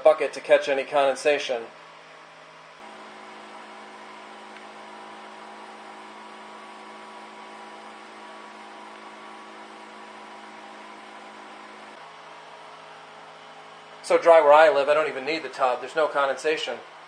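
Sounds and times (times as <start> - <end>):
small fan humming: 2.8 - 17.0.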